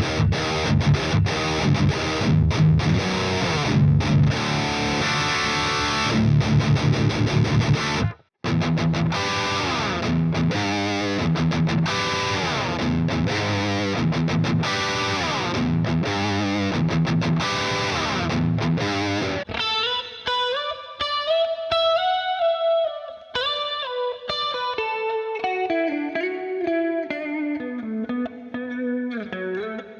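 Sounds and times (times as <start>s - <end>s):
distorted electric guitar: 0.0s - 29.9s.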